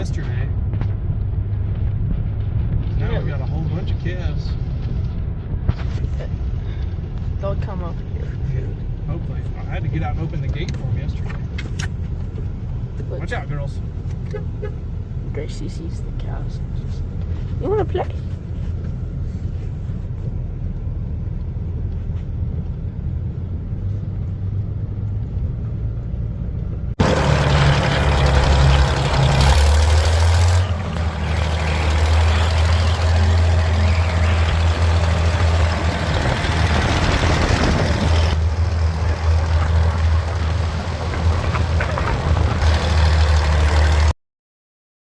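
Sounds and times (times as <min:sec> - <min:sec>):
vehicle engine running: 0:00.0 - 0:44.1.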